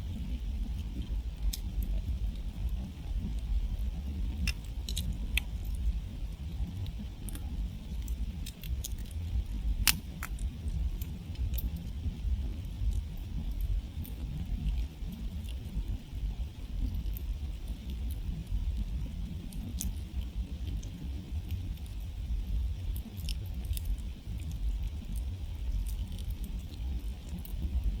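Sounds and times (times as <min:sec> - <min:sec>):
low rumble of flames: 0:00.0 - 0:28.0
wood crackling and popping: 0:00.0 - 0:28.0.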